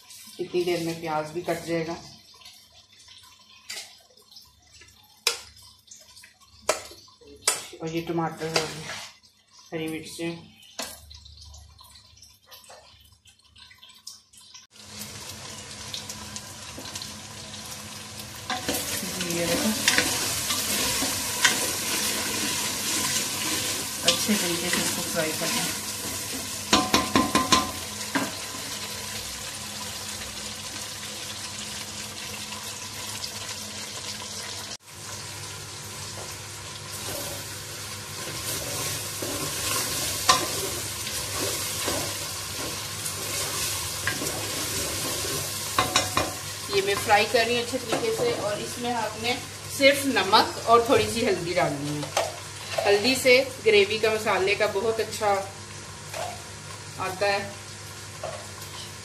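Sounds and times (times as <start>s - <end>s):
food sizzling in oil: 0.0s - 59.0s.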